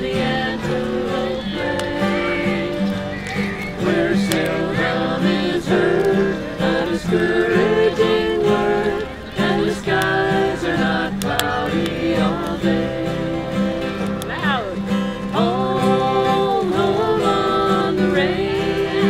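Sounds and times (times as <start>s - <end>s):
guitar: 0.0s - 19.0s
voices singing: 0.0s - 19.0s.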